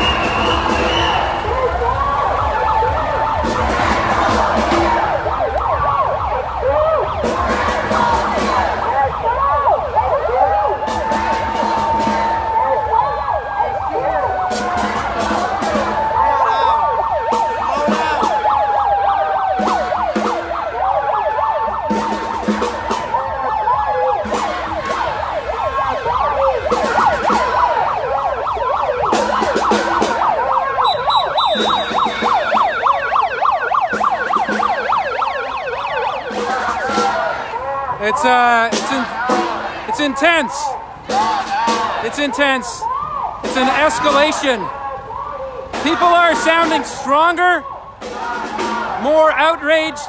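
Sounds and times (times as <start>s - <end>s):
siren wails: 0.0s - 50.0s
street crowd: 0.0s - 50.0s.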